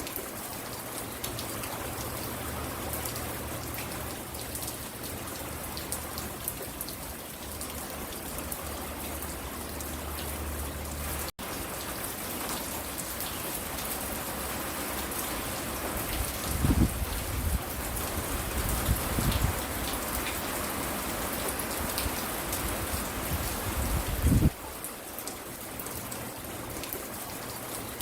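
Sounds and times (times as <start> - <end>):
rain hissing on a porch: 0.0 - 28.0.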